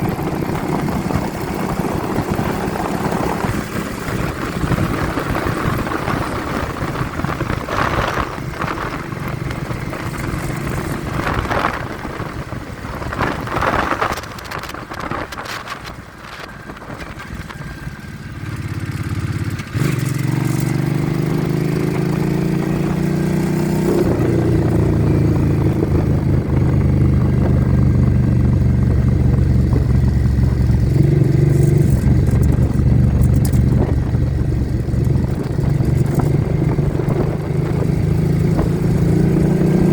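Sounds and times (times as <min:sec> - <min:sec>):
vehicle engine accelerating: 0:00.0 - 0:39.9
wind buffeting microphone: 0:00.0 - 0:39.9.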